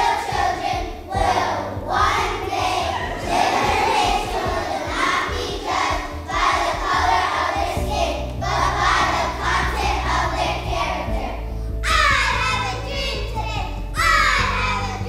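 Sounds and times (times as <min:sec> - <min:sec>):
children's choir singing in unison: 0:00.0 - 0:13.0
low steady notes: 0:00.0 - 0:15.0.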